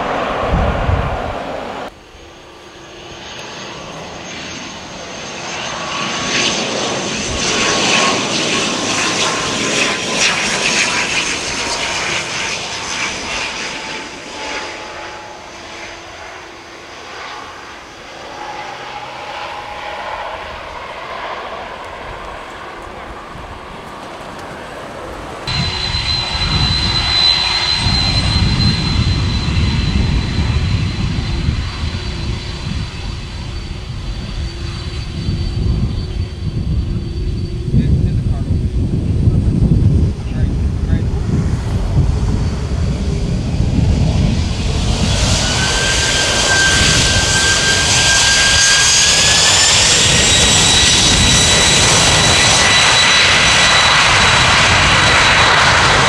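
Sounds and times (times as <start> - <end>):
jet engines taxiing: 0.0 - 56.0
turboprop plane landing: 0.0 - 56.0.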